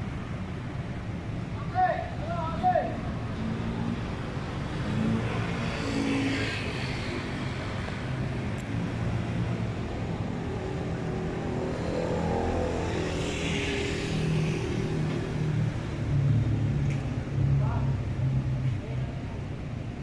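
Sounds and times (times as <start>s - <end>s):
vehicles passing close by: 0.0s - 20.0s.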